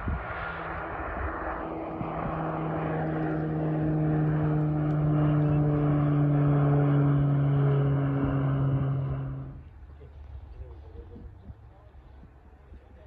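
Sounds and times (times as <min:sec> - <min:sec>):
propeller airplane drone: 0:00.0 - 0:13.0.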